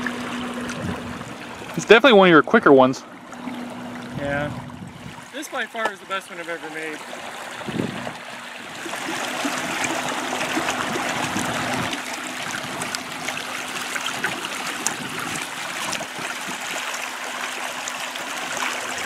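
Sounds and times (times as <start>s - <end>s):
electric boat motor humming: 0.0s - 19.0s
water splashing against hulls: 0.0s - 19.0s.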